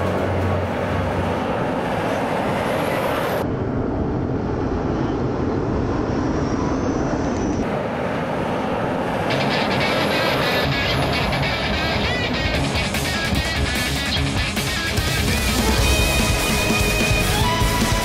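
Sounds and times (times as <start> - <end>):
expressway traffic noise: 0.0 - 18.0
truck passing: 0.0 - 18.0.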